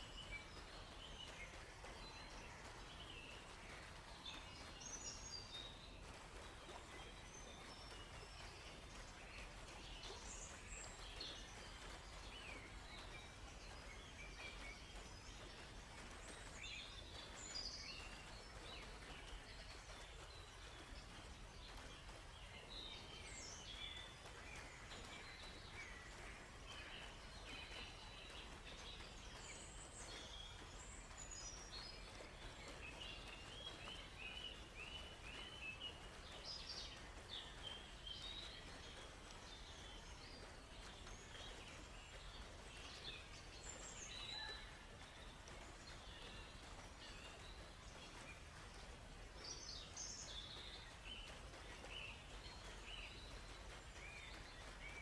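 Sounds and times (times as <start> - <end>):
faint background hiss: 0.0 - 55.0
songbirds chirping: 0.0 - 55.0.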